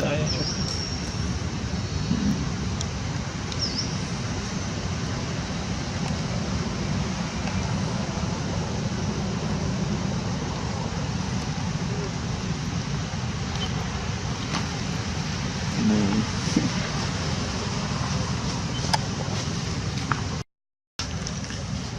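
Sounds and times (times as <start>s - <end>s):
low rumbling background noise: 0.0s - 20.4s.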